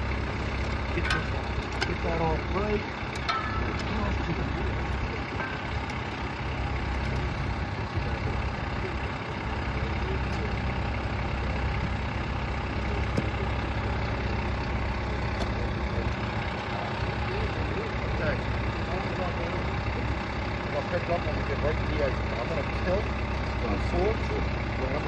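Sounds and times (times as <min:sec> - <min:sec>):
heavy vehicle engine idling: 0:00.0 - 0:25.0.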